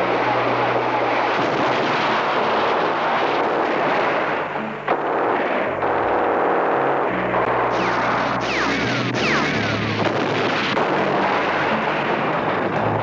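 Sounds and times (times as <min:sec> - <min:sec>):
artillery and gunfire: 0:00.0 - 0:13.0
sharp crack: 0:00.0 - 0:13.0.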